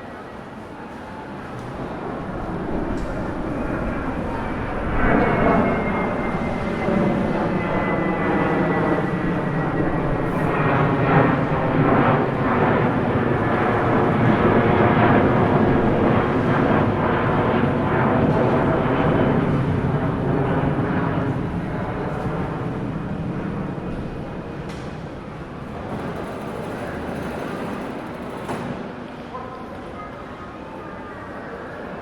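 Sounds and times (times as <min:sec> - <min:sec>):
airplane engines running: 0:00.0 - 0:32.0.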